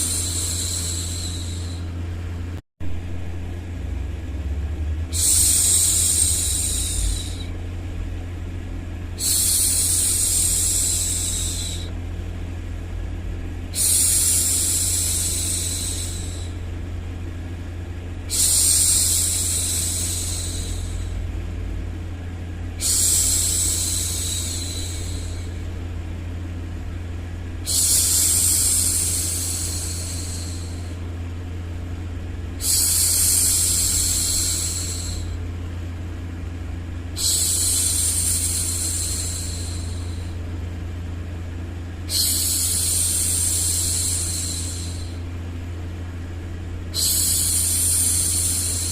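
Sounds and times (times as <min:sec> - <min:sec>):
steady low rumble: 0:00.0 - 0:48.9.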